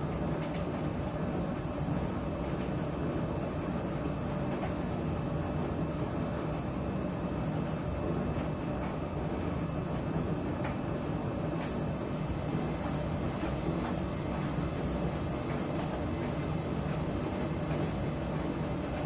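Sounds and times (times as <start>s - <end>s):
washing machine rumbling: 0.0s - 19.0s.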